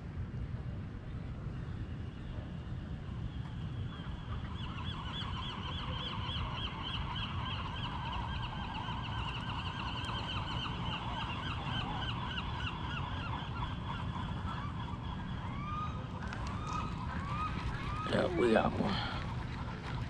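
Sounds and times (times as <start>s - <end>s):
low rumble of wind or water: 0.0s - 20.0s.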